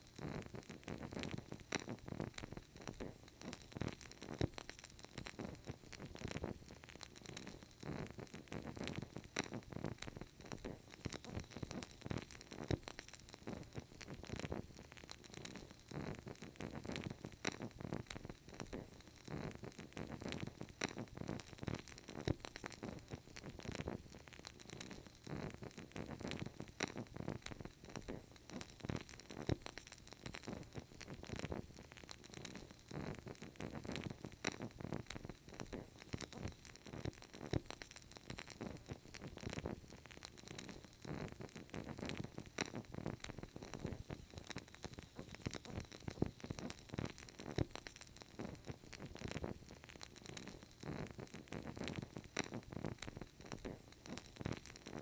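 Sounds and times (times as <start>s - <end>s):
candle crackling: 0.0s - 55.0s.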